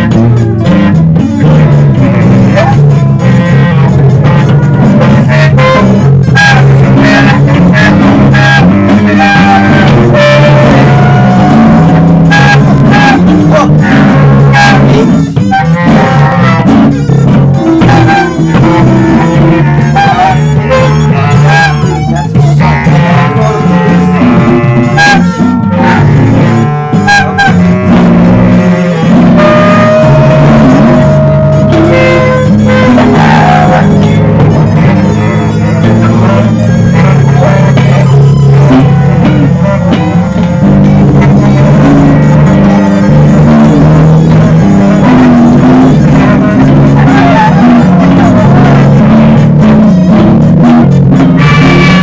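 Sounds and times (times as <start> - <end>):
electric bass line: 0.0 - 52.0
loud instrumental band music: 0.0 - 52.0.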